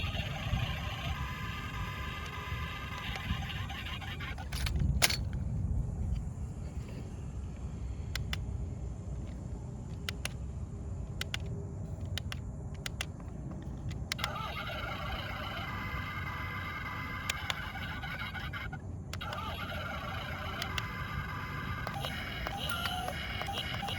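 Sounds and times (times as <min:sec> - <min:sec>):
sharp clicks: 0:00.0 - 0:05.4, 0:08.1 - 0:08.5, 0:09.2 - 0:10.4, 0:11.1 - 0:23.9
steady low rumble: 0:00.0 - 0:23.9.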